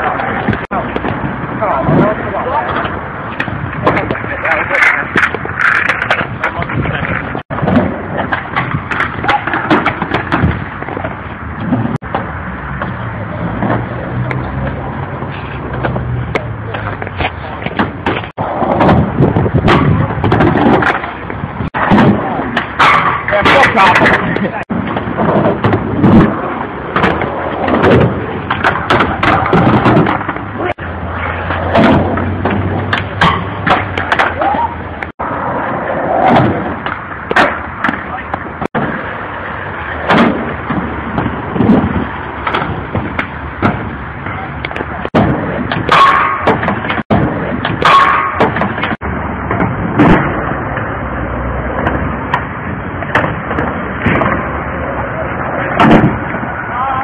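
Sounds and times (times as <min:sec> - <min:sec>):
skateboard clacking: 0:00.0 - 0:57.0
skateboard wheels rolling on concrete: 0:00.0 - 0:57.0.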